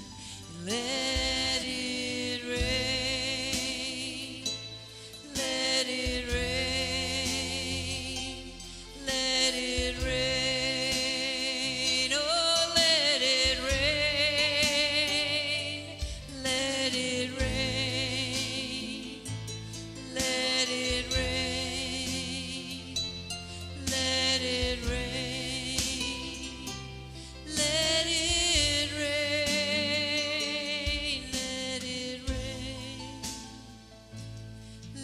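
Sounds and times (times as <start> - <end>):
person singing with vibrato: 0.0 - 35.0.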